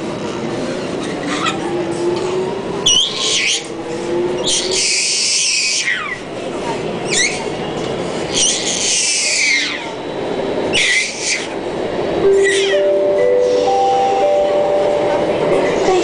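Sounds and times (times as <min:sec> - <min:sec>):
metro train rumbling: 0:00.0 - 0:16.0.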